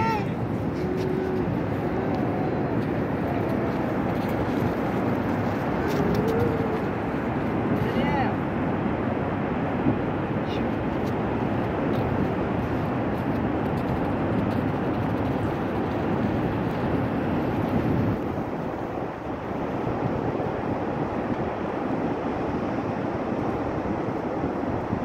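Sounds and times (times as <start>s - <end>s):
wind blowing over microphone: 0.0s - 25.0s.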